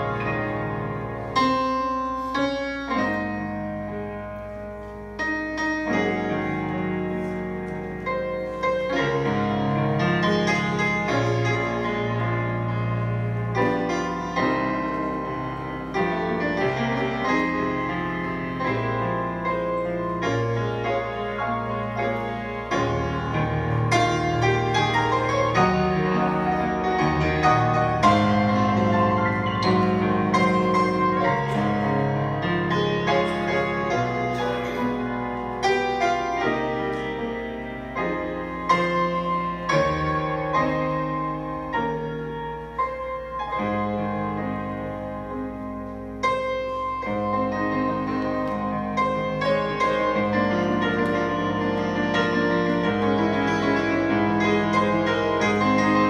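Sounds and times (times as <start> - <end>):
solo piano playing hymns: 0.0 - 56.0.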